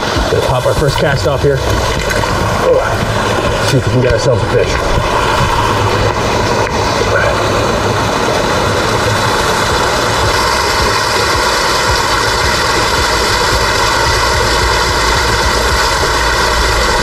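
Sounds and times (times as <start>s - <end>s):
water rushing in a brook cascade: 0.0s - 17.0s.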